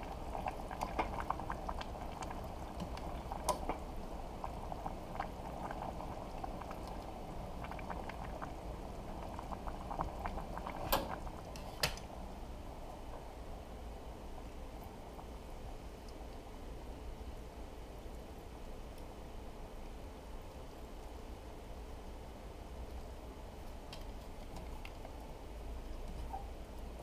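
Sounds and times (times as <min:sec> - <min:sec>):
soup boiling in a pot: 0:00.0 - 0:27.0.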